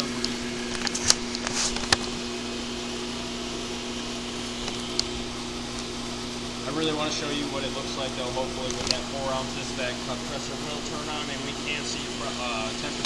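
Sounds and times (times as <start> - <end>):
mechanical hum of shop equipment: 0.0 - 13.0.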